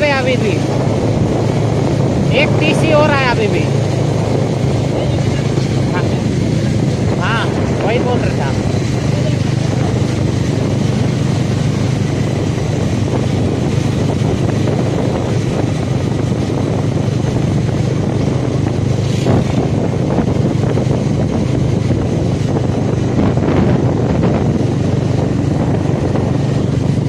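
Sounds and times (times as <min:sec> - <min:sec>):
motorcycle engine running: 0:00.0 - 0:27.0
wind noise on microphone: 0:00.0 - 0:27.0.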